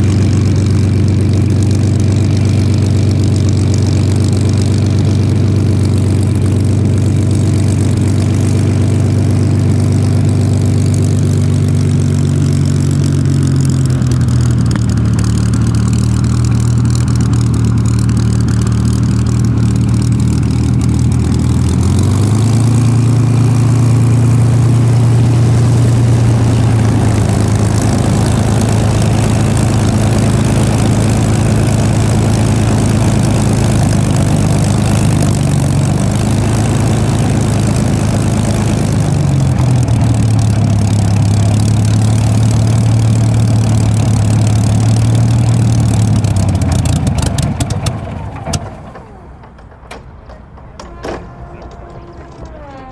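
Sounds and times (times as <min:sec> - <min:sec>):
aircraft piston engine droning: 0:00.0 - 0:52.9.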